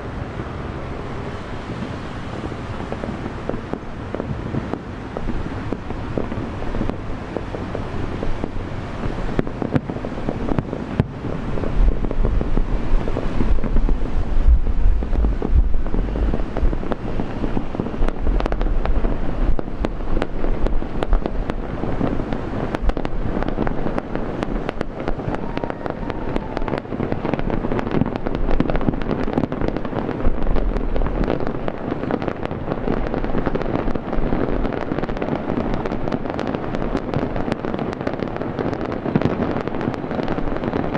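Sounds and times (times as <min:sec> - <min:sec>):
fireworks bursting and crackling: 0:00.0 - 0:40.9
wind on microphone: 0:00.0 - 0:40.9.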